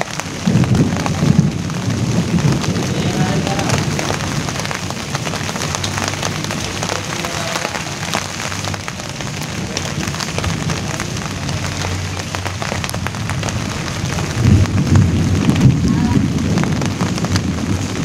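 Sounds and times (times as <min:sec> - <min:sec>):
rain on leaves: 0:00.0 - 0:18.0
low rumble: 0:00.2 - 0:18.0.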